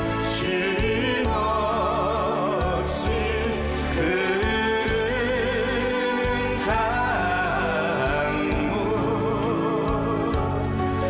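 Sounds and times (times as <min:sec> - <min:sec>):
person singing love song: 0:00.0 - 0:11.0.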